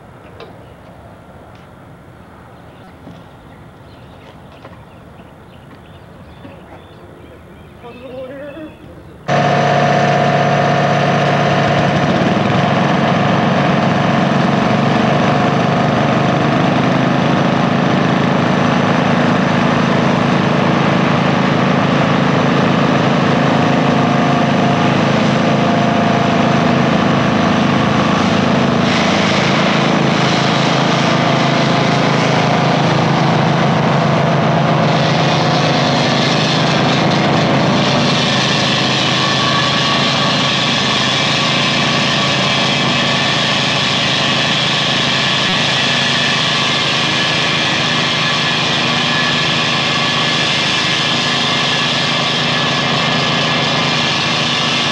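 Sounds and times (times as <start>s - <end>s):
core drill running: 9.3s - 54.9s
vacuum running: 9.3s - 54.9s.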